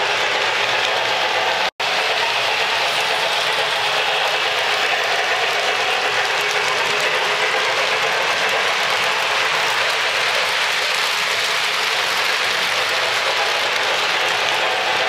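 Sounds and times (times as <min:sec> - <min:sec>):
wheels rattling on plastic track: 0:00.0 - 0:15.0.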